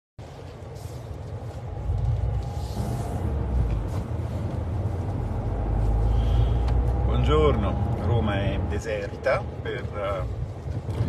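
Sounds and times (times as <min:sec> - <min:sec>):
car engine rumble from cabin: 0:00.2 - 0:11.0.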